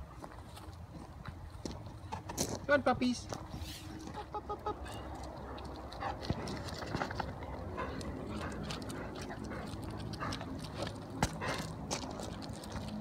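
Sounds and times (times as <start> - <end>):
dog paws on gravel: 0.0 - 4.3, 4.9 - 13.0.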